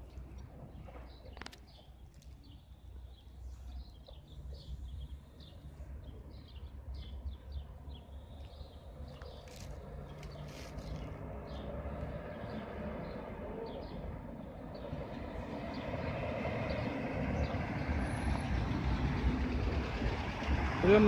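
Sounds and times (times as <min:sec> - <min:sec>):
vehicle engine rumble approaching: 0:00.0 - 0:21.0.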